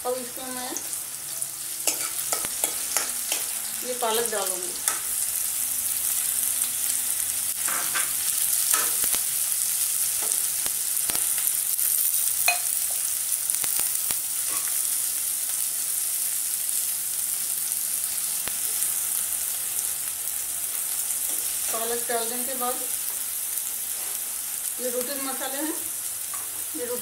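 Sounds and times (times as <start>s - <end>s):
spinach sizzling in a pan: 0.0s - 27.0s.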